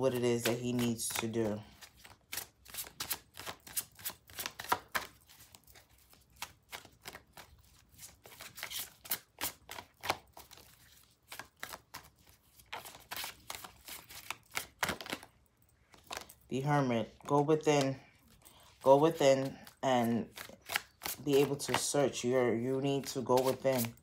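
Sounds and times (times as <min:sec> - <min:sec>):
cards being shuffled: 0:00.0 - 0:15.3, 0:15.9 - 0:24.0.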